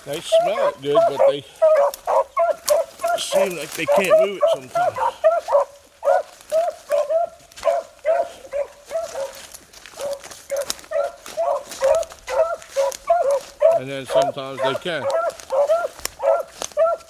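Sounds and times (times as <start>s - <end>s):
hounds baying with high yelps: 0.0s - 17.0s.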